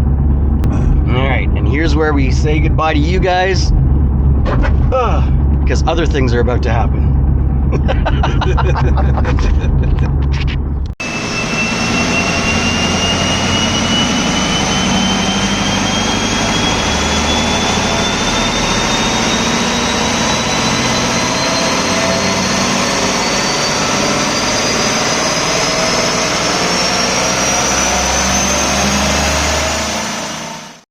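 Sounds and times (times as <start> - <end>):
car engine and road roar: 0.0 - 30.8
turbo whine rising: 0.0 - 30.8.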